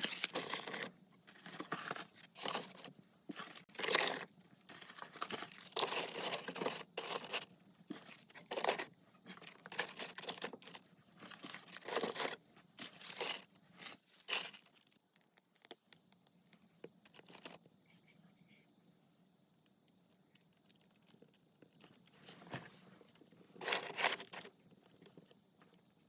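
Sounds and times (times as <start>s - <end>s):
crumpling and tearing: 0.0s - 15.8s, 17.0s - 17.7s, 20.4s - 25.3s.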